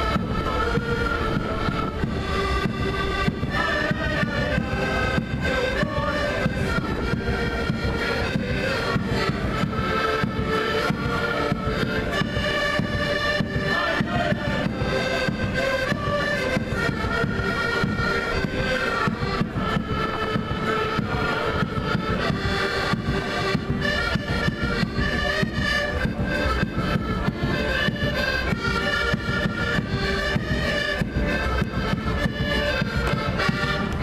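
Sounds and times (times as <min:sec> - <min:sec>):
accordions playing folk tune: 0:00.0 - 0:34.0.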